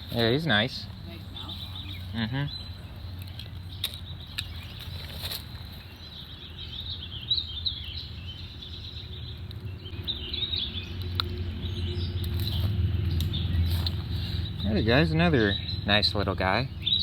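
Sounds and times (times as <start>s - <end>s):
small birds twittering: 0.0s - 17.0s.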